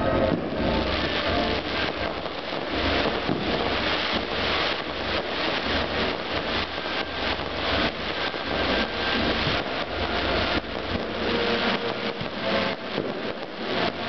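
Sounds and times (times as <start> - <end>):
fireworks popping and crackling: 0.0 - 14.0
hiss of spark fountains: 0.3 - 14.0.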